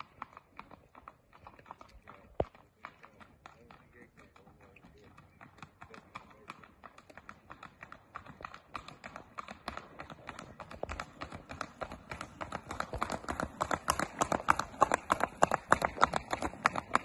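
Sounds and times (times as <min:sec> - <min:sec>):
horse hooves clip-clopping on asphalt: 0:00.0 - 0:17.0.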